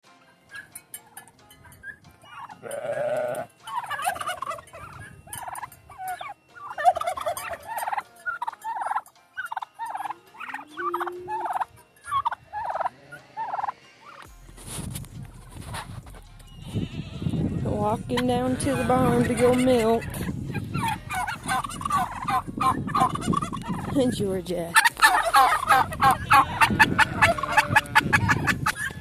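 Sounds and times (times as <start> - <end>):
turkeys gobbling: 0.5 - 14.3, 18.1 - 29.0.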